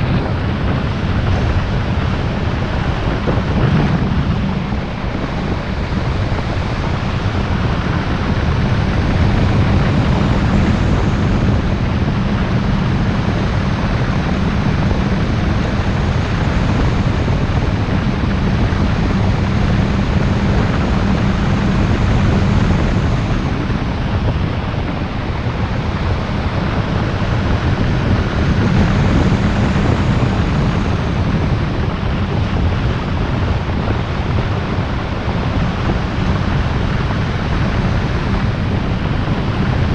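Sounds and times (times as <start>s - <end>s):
car tyres and engine rumble: 0.0s - 39.9s
wind noise on microphone: 0.0s - 39.9s.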